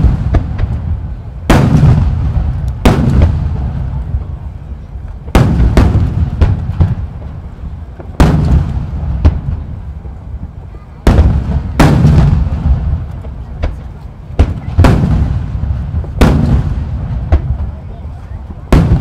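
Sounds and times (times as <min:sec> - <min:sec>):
sharp firework cracks: 0:00.0 - 0:04.4, 0:05.0 - 0:10.0, 0:11.0 - 0:19.0
firework shells booming: 0:00.0 - 0:04.5, 0:05.1 - 0:19.0
rolling echo: 0:00.0 - 0:19.0.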